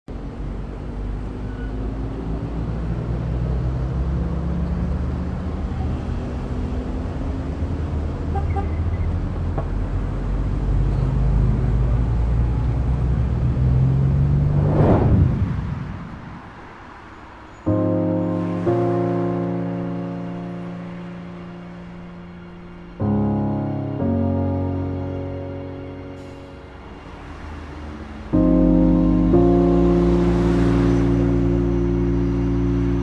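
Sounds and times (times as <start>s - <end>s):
heavy city traffic: 0.0s - 33.0s.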